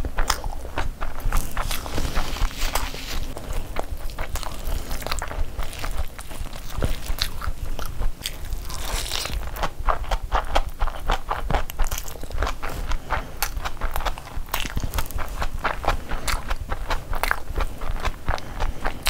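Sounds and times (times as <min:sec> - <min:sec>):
chewing with clicks and smacks: 0:00.0 - 0:19.0.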